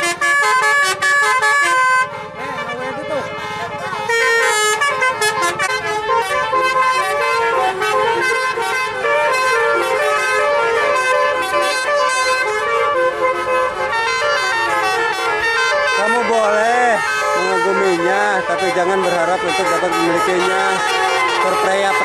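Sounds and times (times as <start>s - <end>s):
multi-tone air horn melody: 0.0s - 22.0s.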